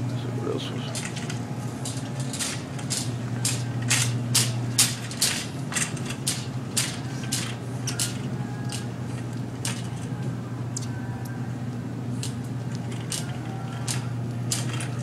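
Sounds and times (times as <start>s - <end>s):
shopping cart rolling on tiles: 0.7s - 10.2s, 12.2s - 15.0s.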